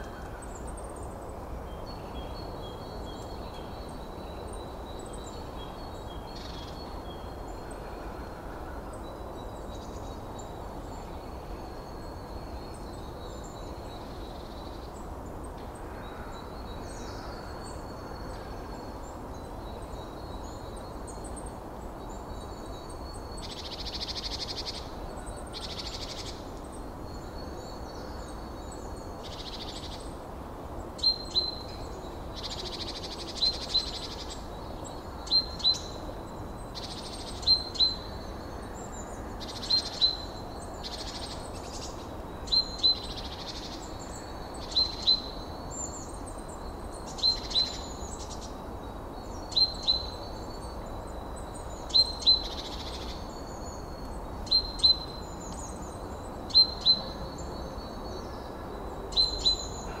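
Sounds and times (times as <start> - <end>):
steady background noise: 0.0 - 60.0.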